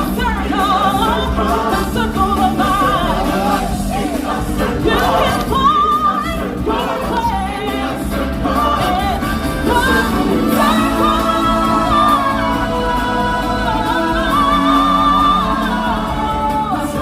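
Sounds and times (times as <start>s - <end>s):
steady bass accompaniment: 0.0s - 17.0s
voices singing together: 0.0s - 17.0s.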